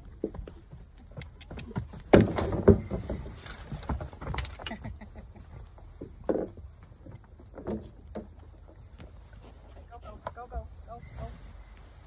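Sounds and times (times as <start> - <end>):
hooves scuffing dirt: 0.0 - 10.7.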